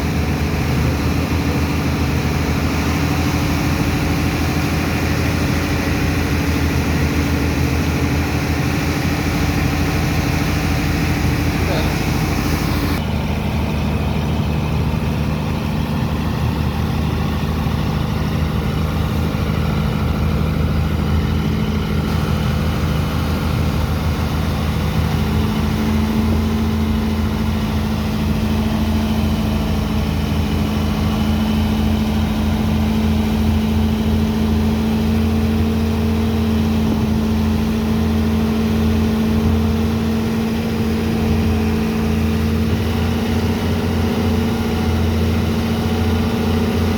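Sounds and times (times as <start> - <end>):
dredger pump engine running: 0.0 - 46.9.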